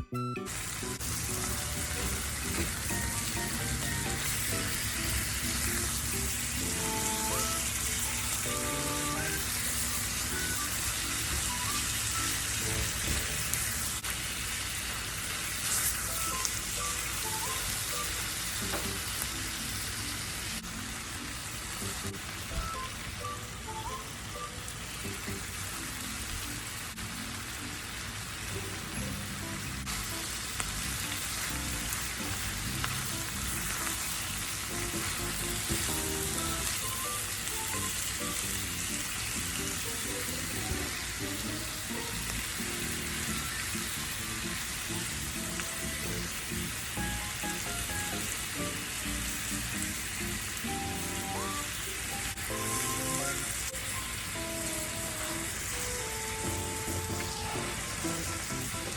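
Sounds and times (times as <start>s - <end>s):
background music: 0.0s - 13.9s, 16.1s - 58.9s
food sizzling in a skillet: 0.4s - 58.9s.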